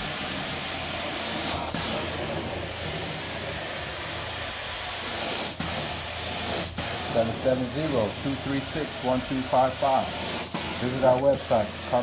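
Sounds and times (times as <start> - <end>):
carpet cleaner suction hiss: 0.0 - 12.0.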